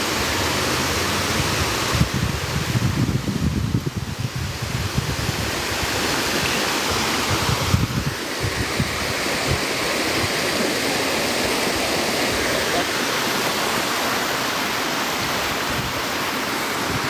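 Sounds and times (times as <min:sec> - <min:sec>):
waterfall rushing: 0:00.0 - 0:17.0
wind buffeting on microphone: 0:00.1 - 0:12.8, 0:14.5 - 0:17.0.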